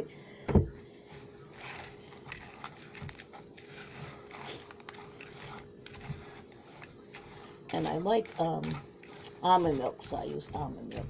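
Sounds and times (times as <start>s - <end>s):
faint steady hum: 0.0s - 11.0s
utensils scraping plastic bowl: 1.1s - 11.0s.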